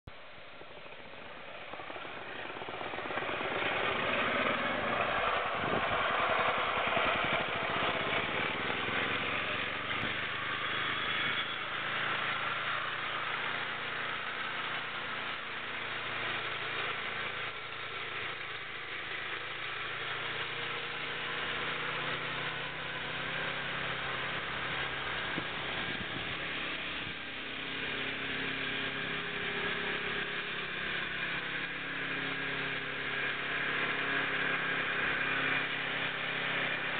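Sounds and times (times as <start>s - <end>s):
small engine running: 0.4s - 36.9s.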